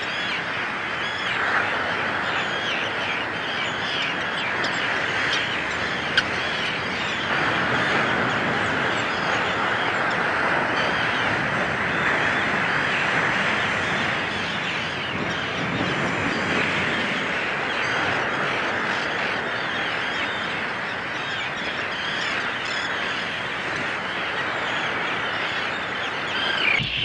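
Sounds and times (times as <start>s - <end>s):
terns calling: 0.0s - 27.0s.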